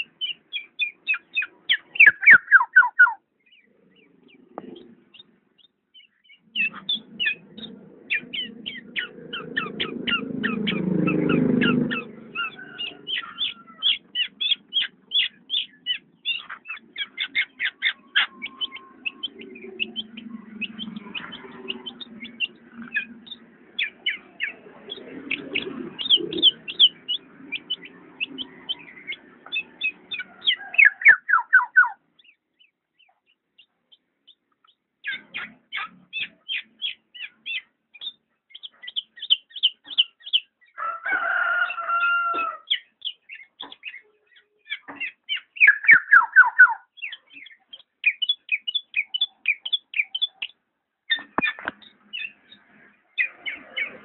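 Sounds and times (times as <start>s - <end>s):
bird chattering calls: 0.0s - 40.8s, 41.6s - 54.0s
bird pitched call: 0.0s - 54.0s.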